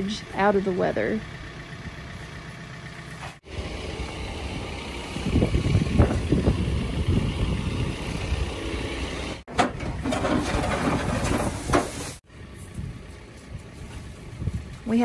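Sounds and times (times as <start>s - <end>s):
vehicle engine running: 0.0s - 11.2s, 12.3s - 15.0s.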